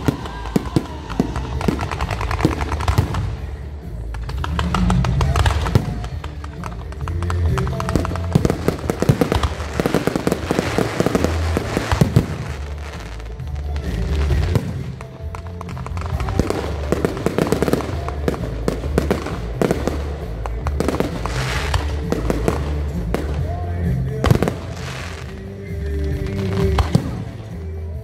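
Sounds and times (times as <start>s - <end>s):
fireworks bursting and crackling: 0.0s - 28.0s
music with heavy bass: 0.0s - 28.0s.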